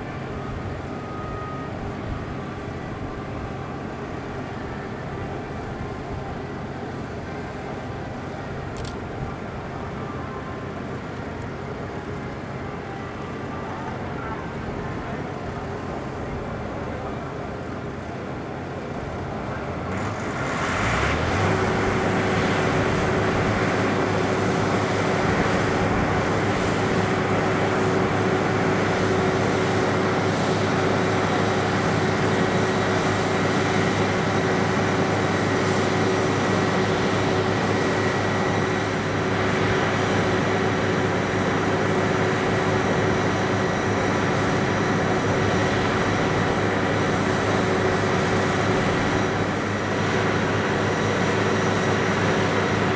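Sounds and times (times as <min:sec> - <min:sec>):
machinery drone with hum: 0:00.0 - 0:52.9.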